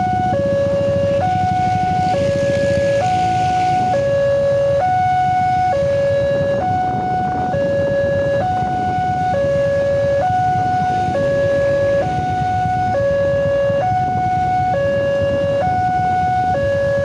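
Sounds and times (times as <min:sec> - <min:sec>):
level crossing two-tone alarm: 0:00.0 - 0:17.0
low rumble of road traffic: 0:00.0 - 0:17.0.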